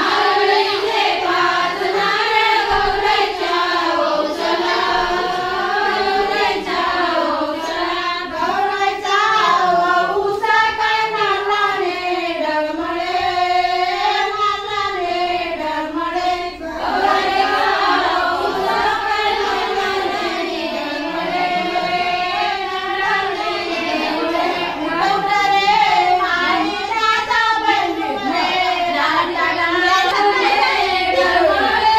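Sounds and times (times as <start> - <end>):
women singing in unison: 0.0 - 31.9.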